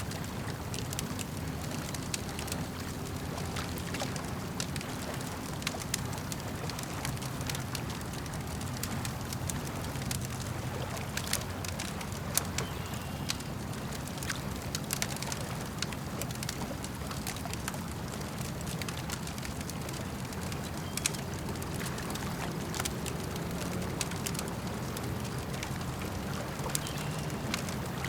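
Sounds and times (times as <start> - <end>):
campfire crackling and snapping: 0.0 - 28.0
lake water washing: 0.0 - 28.0.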